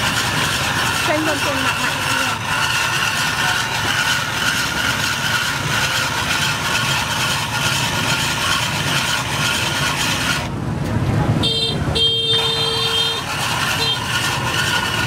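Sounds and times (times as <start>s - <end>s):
engine running: 0.0s - 15.0s
street noise: 0.0s - 15.0s.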